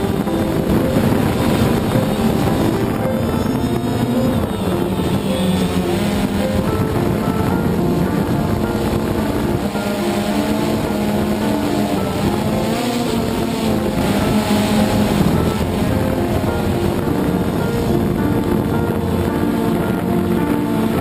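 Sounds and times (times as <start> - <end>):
background music with held notes: 0.0 - 21.0.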